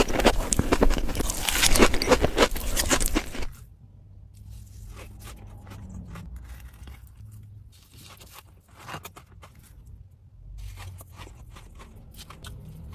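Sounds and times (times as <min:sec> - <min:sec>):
crunching and chewing dessert: 0:00.0 - 0:03.7, 0:04.4 - 0:12.9.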